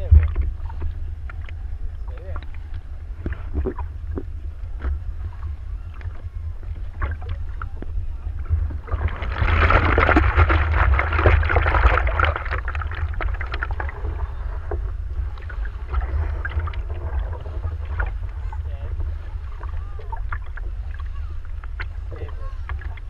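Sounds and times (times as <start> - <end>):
rush of water: 0.0 - 23.0
water splashing against surfboard: 0.0 - 23.0
wind rumble on microphone: 0.0 - 23.0.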